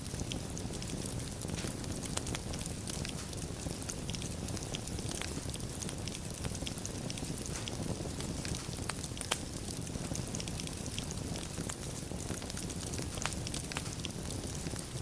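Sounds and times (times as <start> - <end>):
low rush of fire: 0.0 - 15.0
wood fire crackling: 0.0 - 15.0
sharp pops of fire: 0.1 - 15.0.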